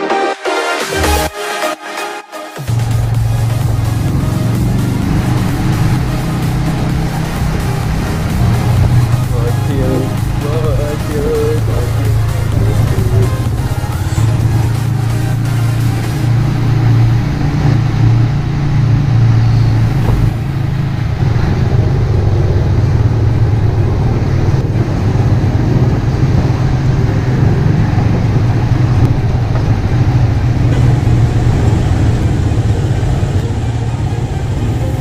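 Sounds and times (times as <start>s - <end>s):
motorcycle engine running: 2.6s - 35.0s.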